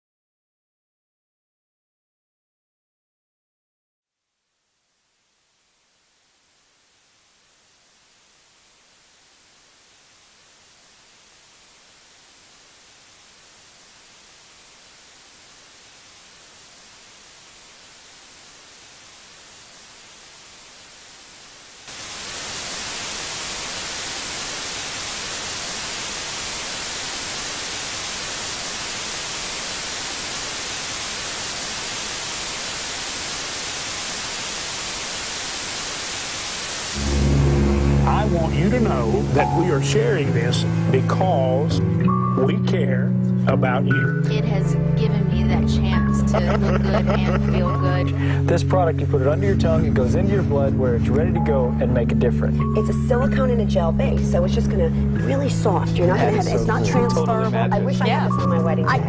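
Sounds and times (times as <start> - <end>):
static hiss: 4.1 - 42.4, 44.2 - 59.0.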